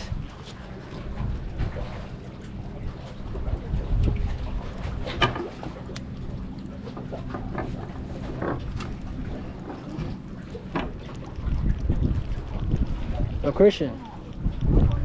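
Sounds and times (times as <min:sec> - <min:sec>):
low steady hum: 0:00.0 - 0:15.0
wind rumbling on the microphone: 0:00.0 - 0:15.0.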